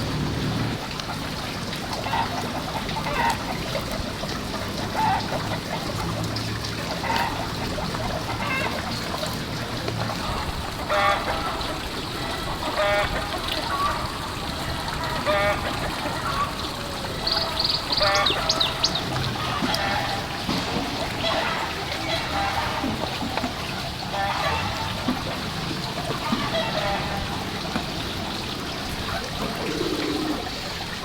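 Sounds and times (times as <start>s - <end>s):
ducks quacking: 0.0s - 31.0s
water trickling: 0.0s - 31.0s.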